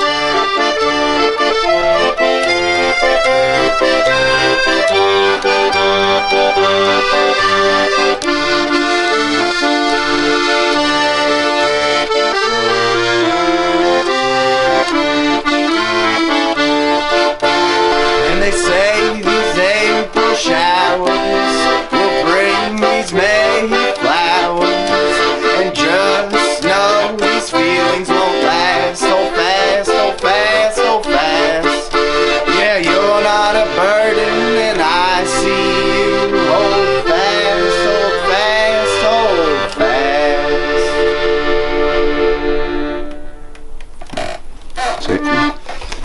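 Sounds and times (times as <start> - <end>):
instrumental folk-punk music: 0.0 - 46.0.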